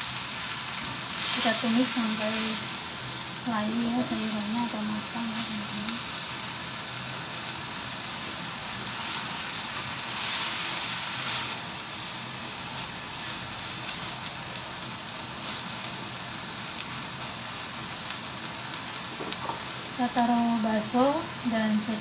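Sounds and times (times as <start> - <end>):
vegetables sizzling in a wok: 0.0 - 22.0.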